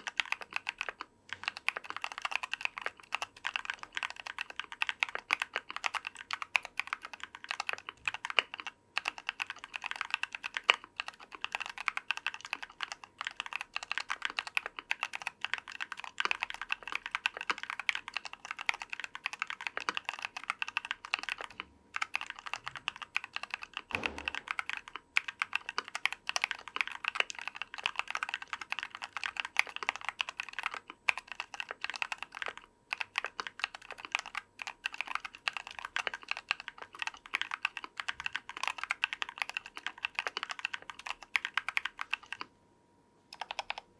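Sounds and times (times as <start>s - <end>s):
mechanical keyboard typing: 0.0s - 42.5s, 43.3s - 43.9s.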